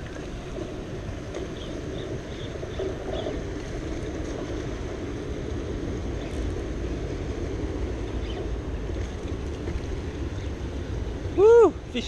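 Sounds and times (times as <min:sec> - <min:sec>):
wind on microphone: 0:00.0 - 0:11.9
train rumbling: 0:00.0 - 0:12.0.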